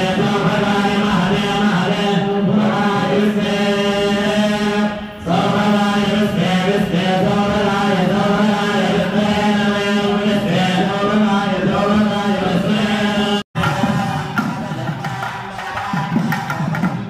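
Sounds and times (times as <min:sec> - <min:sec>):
men chanting in unison: 0:00.0 - 0:16.6.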